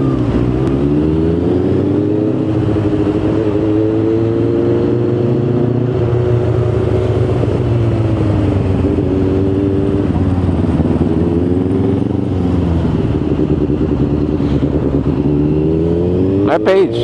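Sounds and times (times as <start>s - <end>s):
motorcycle engine: 0.0s - 17.0s
road noise: 0.0s - 17.0s.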